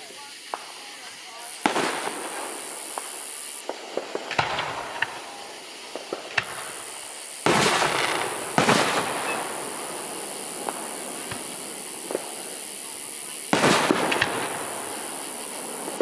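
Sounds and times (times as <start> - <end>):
fireworks popping: 0.0 - 16.0
loud firework bursts crackling: 0.0 - 16.0.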